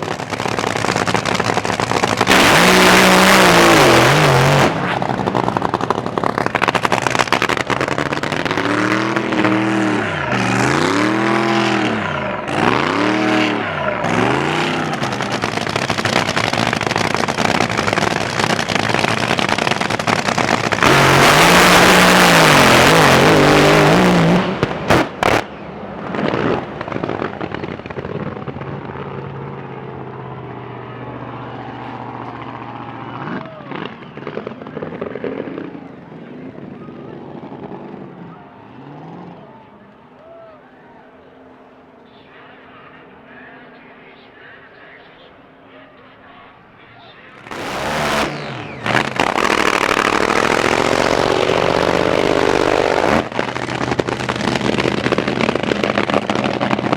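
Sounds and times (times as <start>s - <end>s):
racing boat engines revving: 0.0s - 56.9s.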